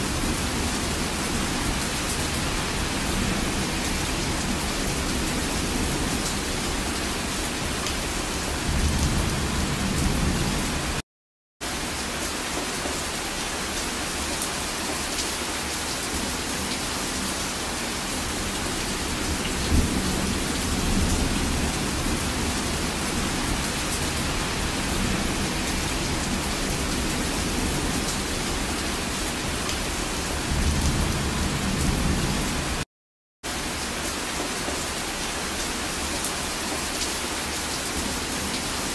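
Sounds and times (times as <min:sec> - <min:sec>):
steady rain hiss: 0:00.0 - 0:11.0, 0:11.7 - 0:32.8.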